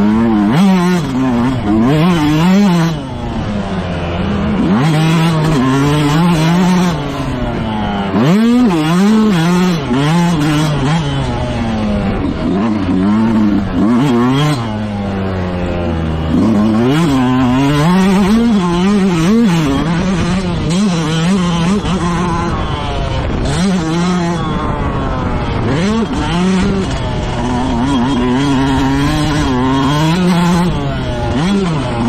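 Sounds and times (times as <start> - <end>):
motocross bike engine racing: 0.0 - 32.0.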